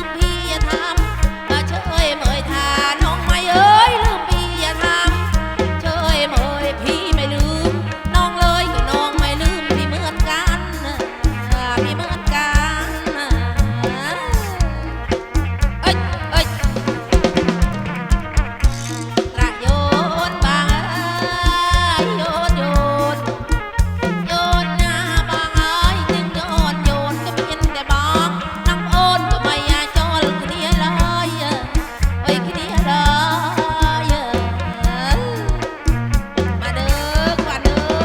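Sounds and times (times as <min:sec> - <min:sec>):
repeating bass line: 0:00.0 - 0:38.0
steady drum beat: 0:00.0 - 0:38.0
wavering lead melody: 0:00.0 - 0:38.0.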